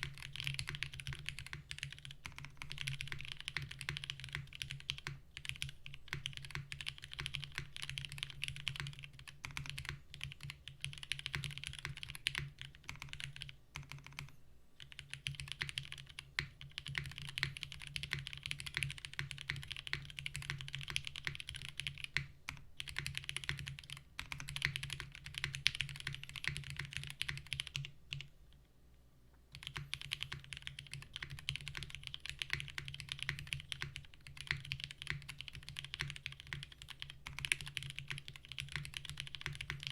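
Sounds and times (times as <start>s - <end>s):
typing on mechanical keyboard: 0.0s - 28.3s, 29.5s - 39.9s.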